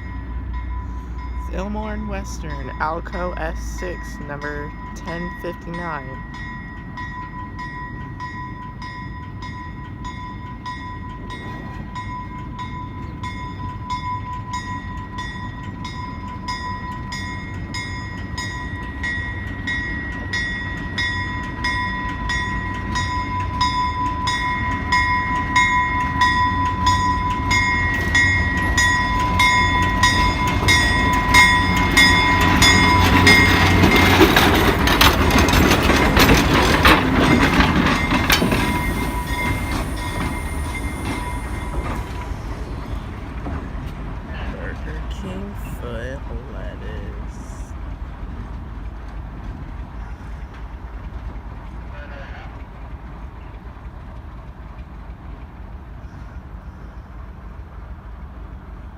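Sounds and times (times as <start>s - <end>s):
locomotive bell ringing: 0.0s - 47.7s
diesel locomotive engine rumble: 0.0s - 58.9s.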